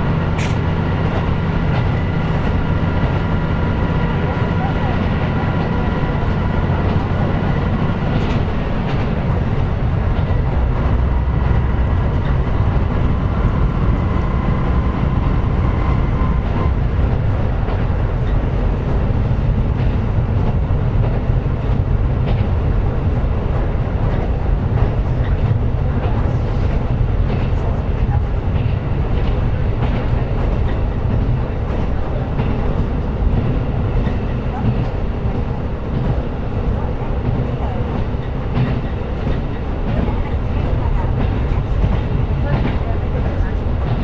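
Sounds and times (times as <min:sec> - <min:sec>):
rail-joint clicks: 0:00.0 - 0:44.0
train engine and wheels rumbling: 0:00.0 - 0:44.0.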